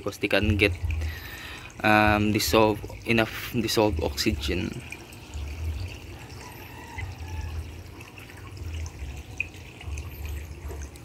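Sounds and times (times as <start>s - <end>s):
aeration bubbling in water: 0.4s - 11.0s.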